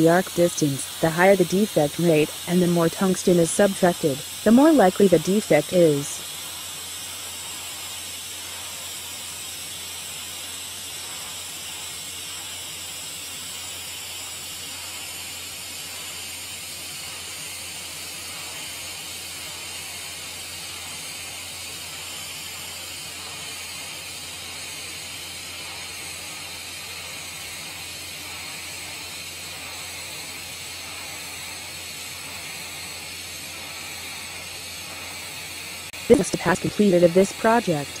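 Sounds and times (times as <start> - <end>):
welding arc hissing: 0.0 - 38.0.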